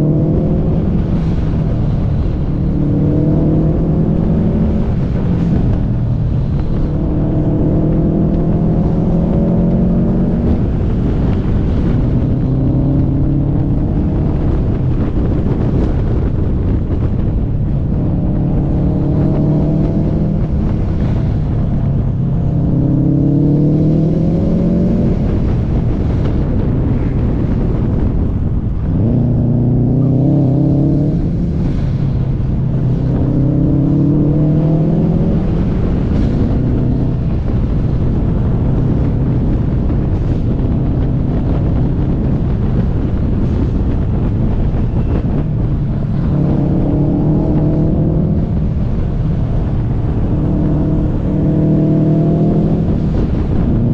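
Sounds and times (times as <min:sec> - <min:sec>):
car engine revving: 0:00.0 - 0:53.9
road and wind noise: 0:00.0 - 0:53.9.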